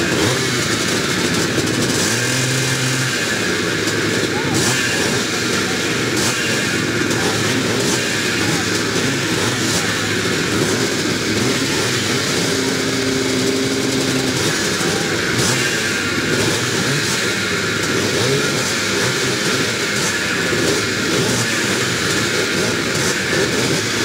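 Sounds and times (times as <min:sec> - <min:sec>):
motocross bikes idling and revving: 0:00.0 - 0:24.0.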